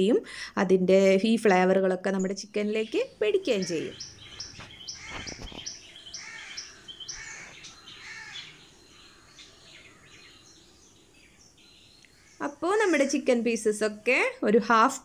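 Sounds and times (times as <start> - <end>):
birds chirping: 1.3 - 15.0.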